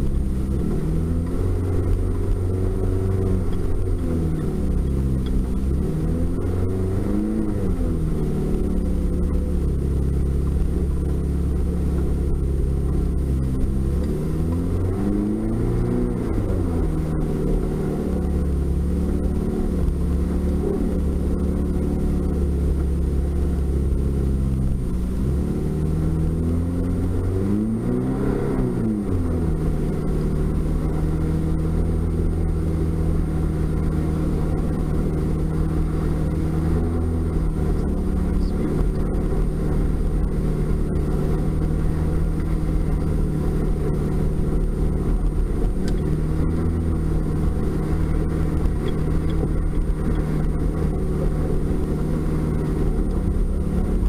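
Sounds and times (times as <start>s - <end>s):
pickup truck engine running: 0.0s - 54.0s.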